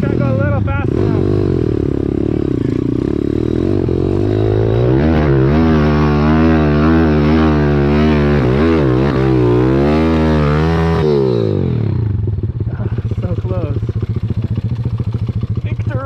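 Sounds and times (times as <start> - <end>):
pit bike engine revving: 0.0 - 16.0.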